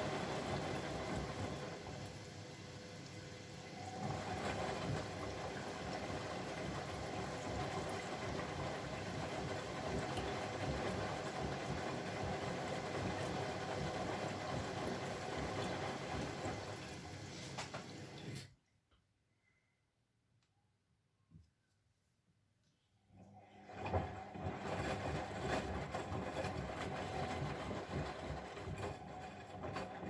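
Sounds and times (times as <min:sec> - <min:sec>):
washing machine churning: 0:00.0 - 0:18.5, 0:23.2 - 0:30.0.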